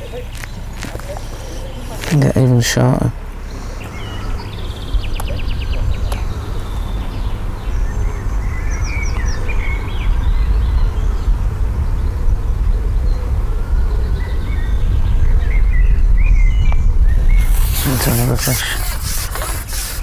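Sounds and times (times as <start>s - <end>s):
birds singing: 0.0s - 20.0s
wind rumbling on microphone: 3.2s - 20.0s.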